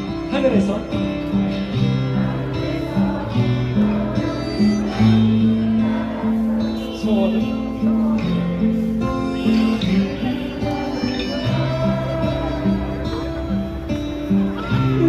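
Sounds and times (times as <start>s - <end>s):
guitar and bass chords: 0.0s - 15.0s.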